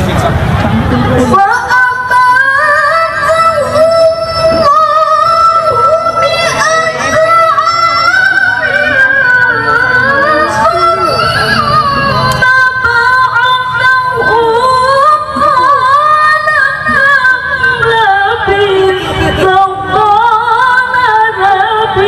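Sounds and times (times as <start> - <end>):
woman chanting through microphone: 1.0 - 22.0.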